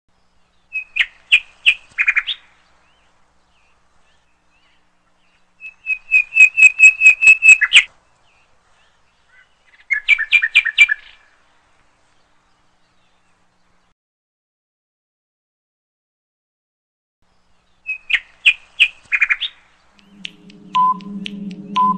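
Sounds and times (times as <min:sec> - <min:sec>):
songbird chirping: 0:00.1 - 0:13.9, 0:17.2 - 0:21.9.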